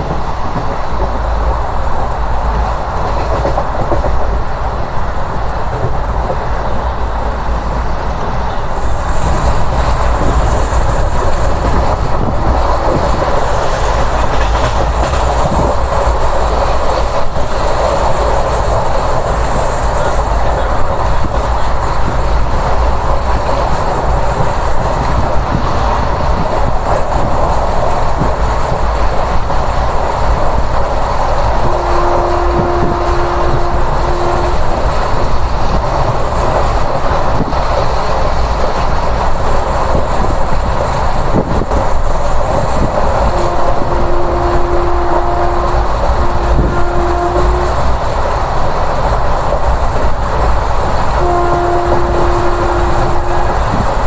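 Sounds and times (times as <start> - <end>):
train wheels rumbling on rails: 0.0 - 54.0
wind buffeting microphone: 0.0 - 54.0.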